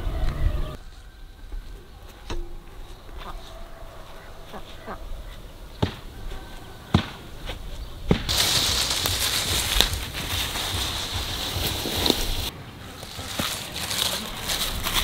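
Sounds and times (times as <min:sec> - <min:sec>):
footsteps through dry leaves: 0:00.8 - 0:05.4, 0:07.6 - 0:15.0.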